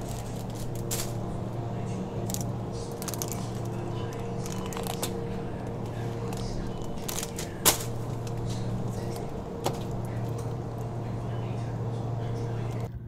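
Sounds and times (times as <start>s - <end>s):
plastic packaging crinkling: 0.0s - 11.7s
refrigerator electrical hum: 0.0s - 13.0s.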